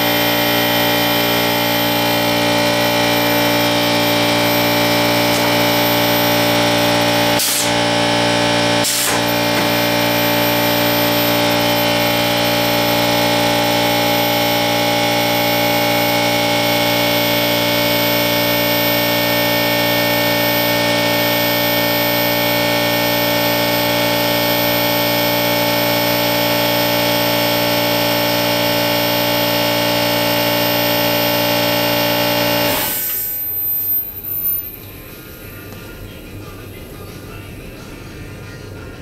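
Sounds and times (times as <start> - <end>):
air compressor humming: 0.0 - 38.9.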